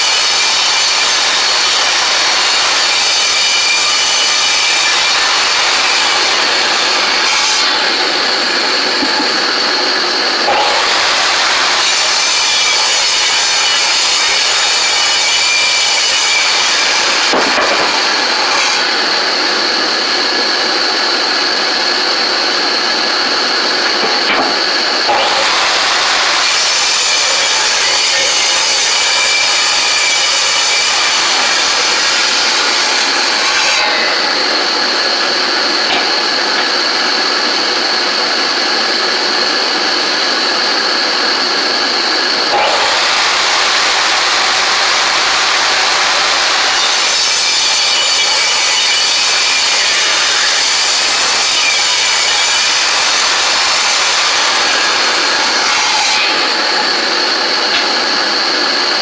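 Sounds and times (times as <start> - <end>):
table saw cutting wood: 0.0 - 59.0.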